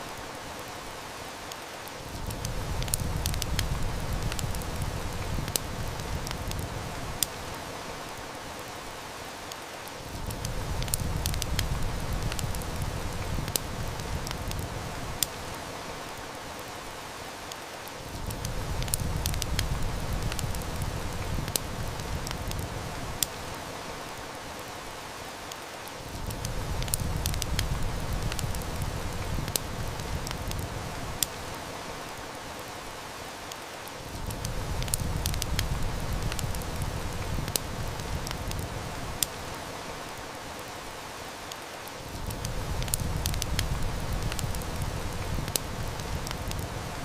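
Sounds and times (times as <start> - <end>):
steady rain hiss: 0.0 - 47.0
wood fire crackling and popping: 1.5 - 8.4, 9.5 - 16.8, 17.5 - 24.8, 25.5 - 32.8, 33.5 - 40.7, 41.5 - 47.0.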